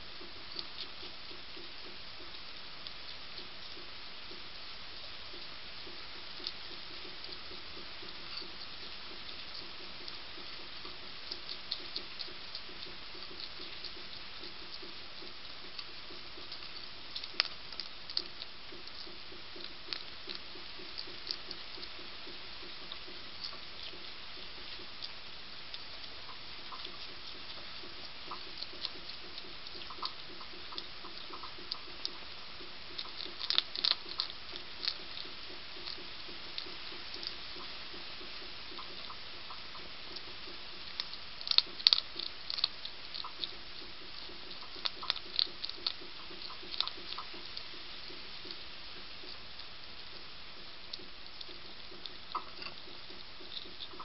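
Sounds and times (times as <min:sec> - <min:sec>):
steady hiss: 0:00.0 - 0:54.0
hedgehog crunching dry food: 0:00.1 - 0:54.0.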